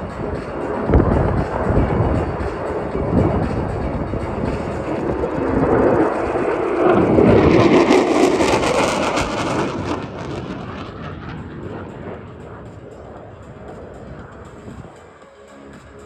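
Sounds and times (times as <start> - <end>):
jet engine roar: 0.0 - 15.8.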